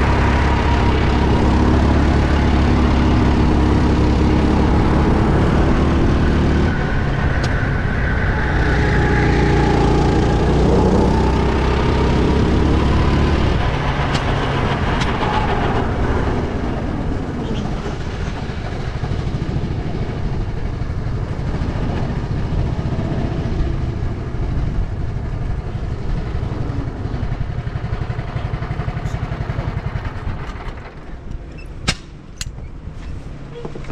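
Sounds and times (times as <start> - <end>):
go-kart engine droning: 0.0 - 31.6.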